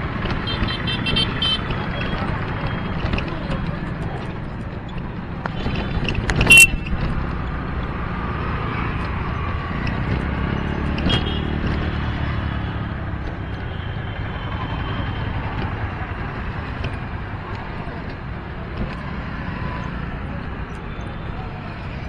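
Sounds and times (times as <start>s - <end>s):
motor vehicle rumble: 0.0s - 22.0s.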